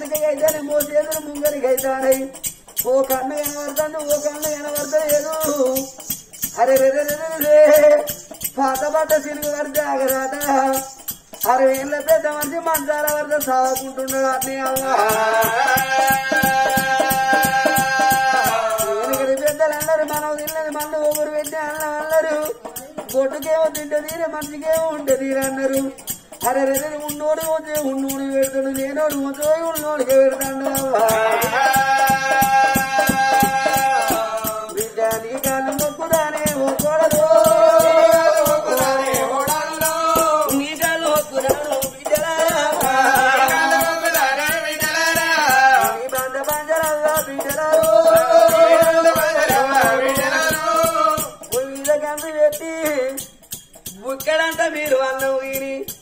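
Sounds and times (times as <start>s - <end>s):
fast shaken rattle: 0.0s - 56.0s.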